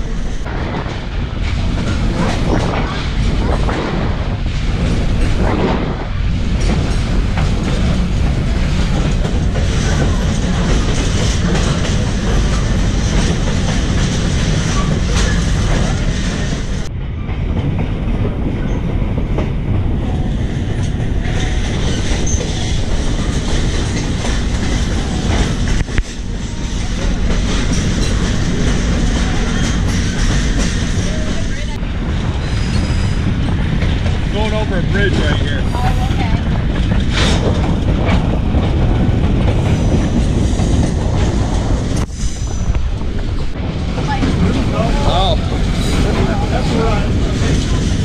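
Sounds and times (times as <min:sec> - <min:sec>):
train rumbling: 0:00.0 - 0:48.0
wheels clicking over rail joints: 0:01.4 - 0:48.0.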